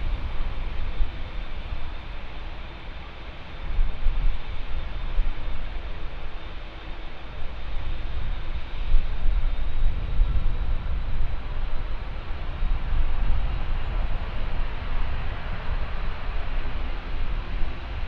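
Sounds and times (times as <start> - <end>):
jet engine rushing and whining: 0.0 - 18.0
wind buffeting microphone: 0.0 - 18.0.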